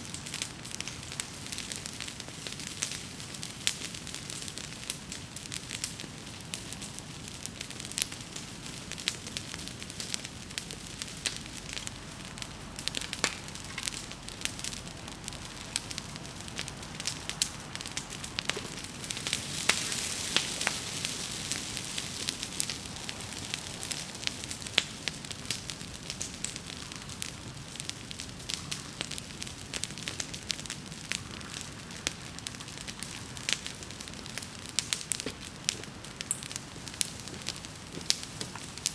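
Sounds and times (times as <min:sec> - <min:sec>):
bonfire crackling and popping: 0:00.0 - 0:38.9
fire hissing: 0:00.0 - 0:38.9.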